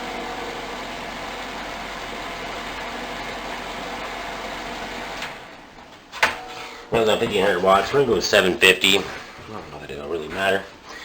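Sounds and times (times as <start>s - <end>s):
space heater fan blowing: 0.0s - 11.0s.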